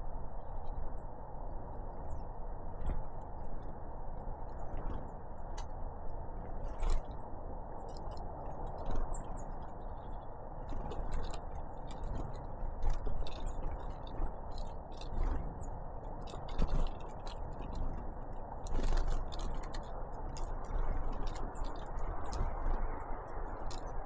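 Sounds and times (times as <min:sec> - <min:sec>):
low background rumble: 0:00.0 - 0:24.0.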